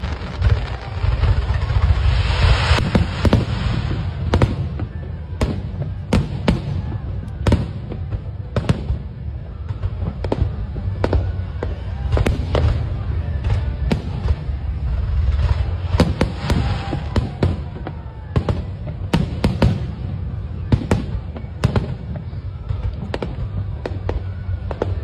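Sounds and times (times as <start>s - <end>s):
fireworks bangs: 0.0s - 25.0s
fireworks hissing: 0.0s - 25.0s.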